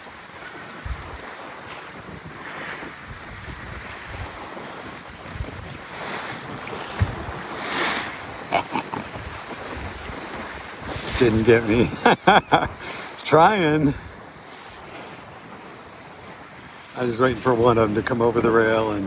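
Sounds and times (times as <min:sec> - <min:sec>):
waves slapping a boat hull: 0:00.0 - 0:19.0
wind buffeting microphone: 0:00.0 - 0:19.0
wave rushing alongside: 0:00.7 - 0:19.0.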